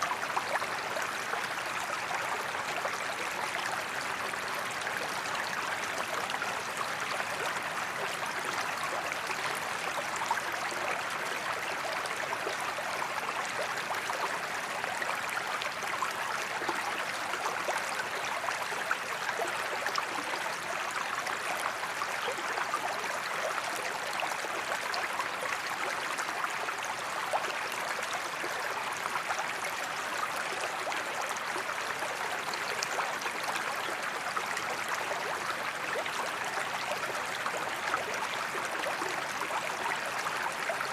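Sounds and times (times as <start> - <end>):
creek babbling and splashing: 0.0 - 40.9.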